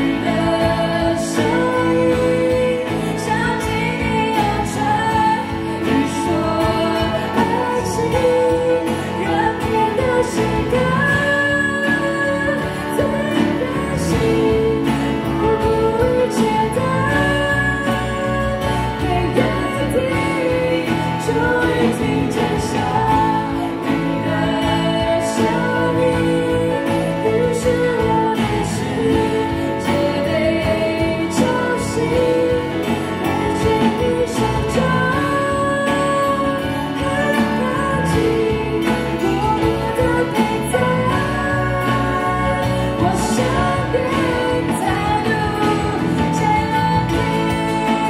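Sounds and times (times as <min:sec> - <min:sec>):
acoustic guitar: 0:00.0 - 0:48.0
woman singing pop song: 0:00.0 - 0:48.0.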